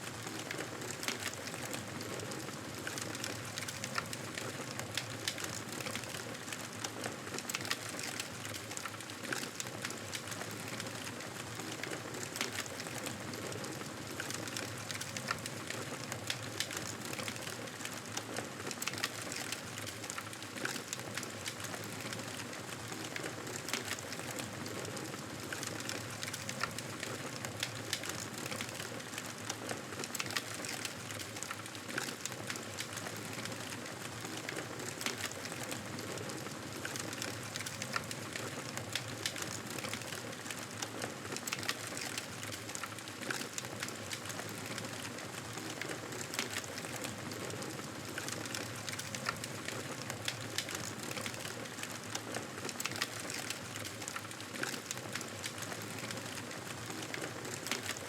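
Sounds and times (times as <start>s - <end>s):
wood fire crackling: 0.1s - 58.0s.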